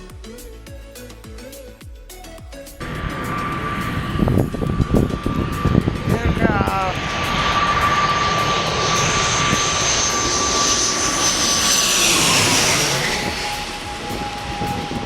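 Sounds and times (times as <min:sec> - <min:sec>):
jet airliner passing overhead: 0:02.8 - 0:15.0.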